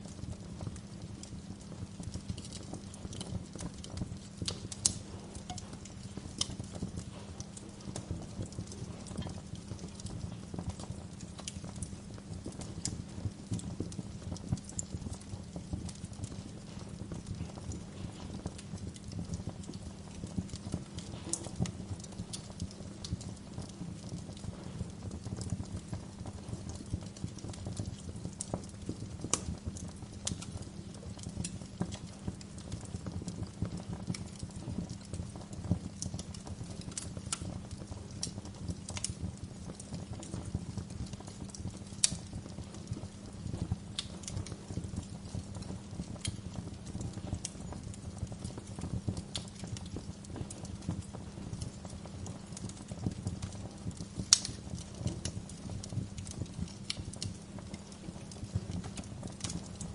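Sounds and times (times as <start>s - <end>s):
low rumble of flames: 0.0s - 59.9s
wood fire crackling: 0.0s - 59.9s
sharp pops and snaps: 2.1s - 24.5s, 25.2s - 59.9s.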